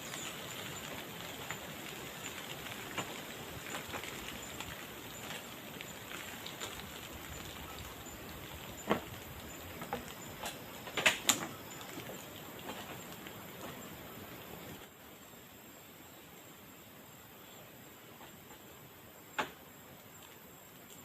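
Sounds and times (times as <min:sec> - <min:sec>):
rain hissing: 0:00.0 - 0:21.0.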